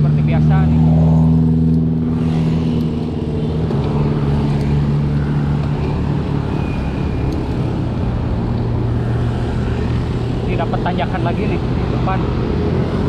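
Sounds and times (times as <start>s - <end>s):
road and traffic noise: 0.0s - 13.0s.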